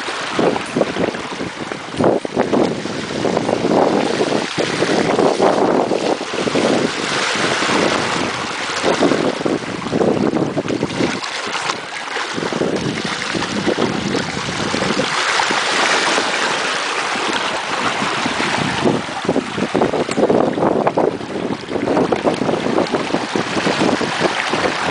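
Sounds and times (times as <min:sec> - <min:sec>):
water rushing past hull: 0:00.0 - 0:24.9
wind buffeting microphone: 0:00.0 - 0:24.9.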